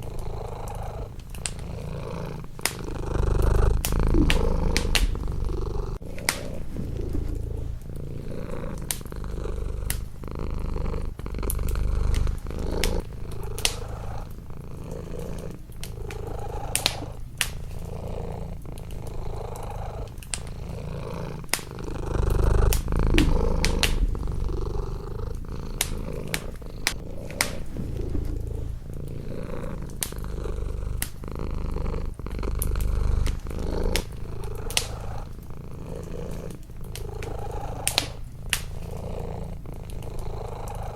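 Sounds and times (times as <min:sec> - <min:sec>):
wood fire crackling and popping: 0:00.0 - 0:40.7
cat purring: 0:00.0 - 0:40.9.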